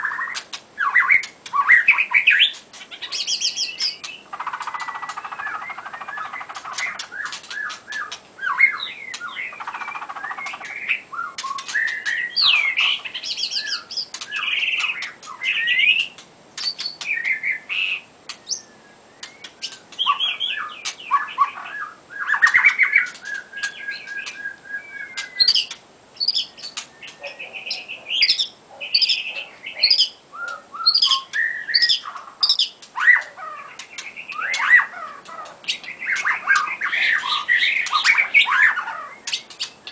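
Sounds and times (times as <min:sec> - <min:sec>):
bird singing whistled phrases: 0:00.0 - 0:35.1, 0:35.7 - 0:39.8.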